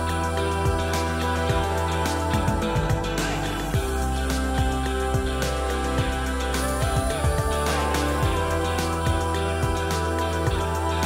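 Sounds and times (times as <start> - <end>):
music with held chords and beat: 0.0 - 11.0.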